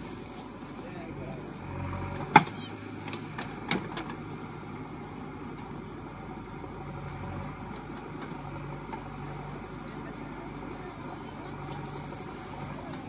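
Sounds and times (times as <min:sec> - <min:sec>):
diesel engine running at low revs: 0:00.0 - 0:13.0.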